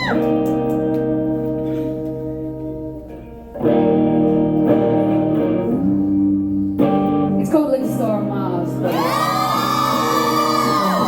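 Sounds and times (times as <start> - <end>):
guitar chords strummed: 0.0 - 9.1.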